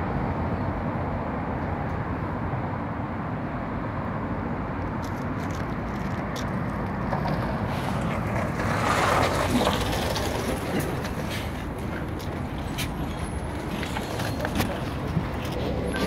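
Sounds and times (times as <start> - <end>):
bus engine and tyre noise: 0.0 - 16.0.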